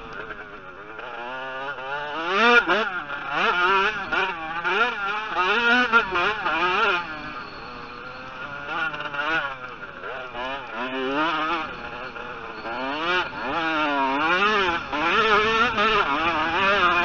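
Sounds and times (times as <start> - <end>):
motocross engine revving: 0.0 - 17.0.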